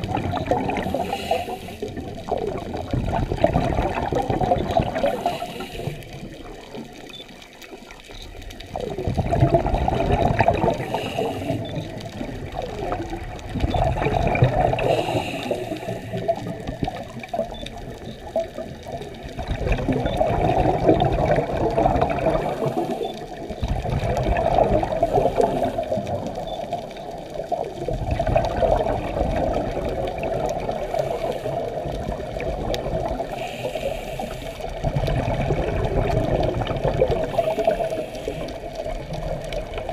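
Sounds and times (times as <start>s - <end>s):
underwater exhaust bubbles: 0.0s - 39.9s.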